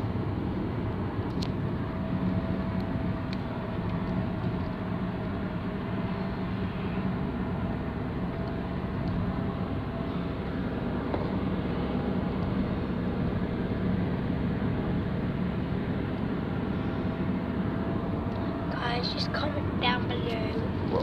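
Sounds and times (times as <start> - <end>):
car interior driving drone: 0.0 - 21.0.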